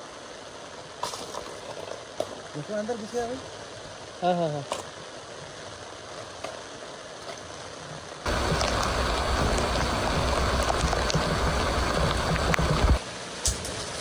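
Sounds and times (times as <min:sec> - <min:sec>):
rainwater pouring down: 0:00.0 - 0:14.0
steady rain falling: 0:00.0 - 0:14.0.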